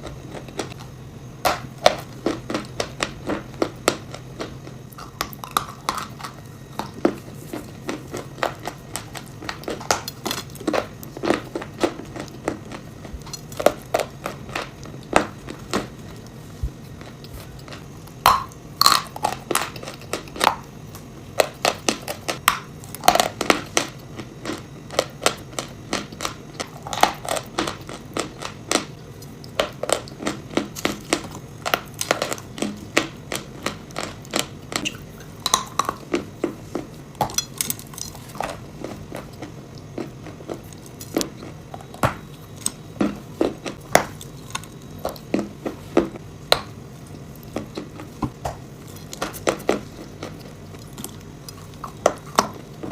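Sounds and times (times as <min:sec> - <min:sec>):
chalk crunching while chewed: 0:00.0 - 0:46.2, 0:47.0 - 0:52.9.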